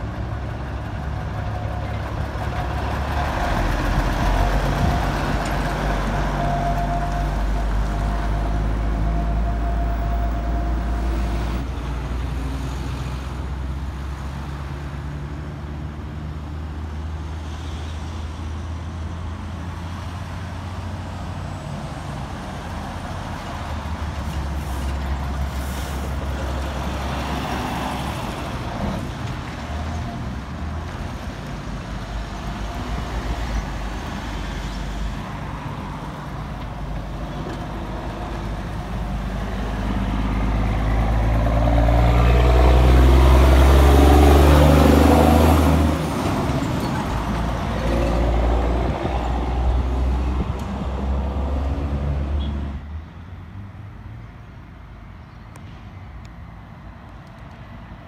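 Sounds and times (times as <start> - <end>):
diesel truck driving past: 0.0 - 54.0.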